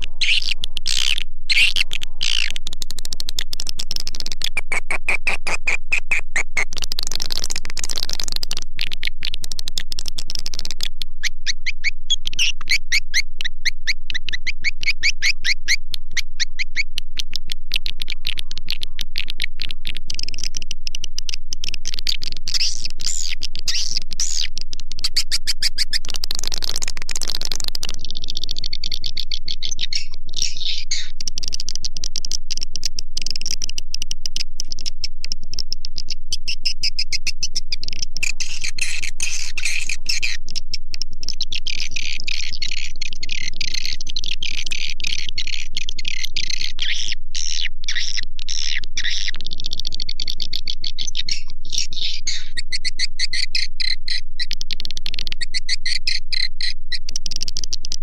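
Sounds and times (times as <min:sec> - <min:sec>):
swiftlets twittering chirps: 0:00.0 - 0:03.2, 0:04.4 - 0:09.0, 0:09.8 - 0:18.8, 0:21.6 - 0:31.2, 0:36.0 - 0:57.0.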